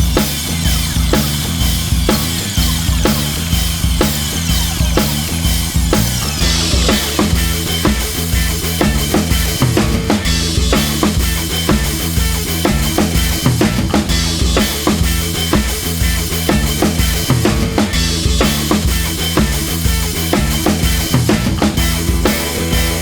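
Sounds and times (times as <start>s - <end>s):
rock music with drums and bass: 0.0s - 23.0s.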